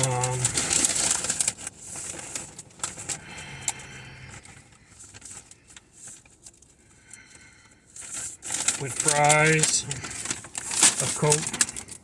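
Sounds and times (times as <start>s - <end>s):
paper packaging rustling: 0.0s - 12.0s.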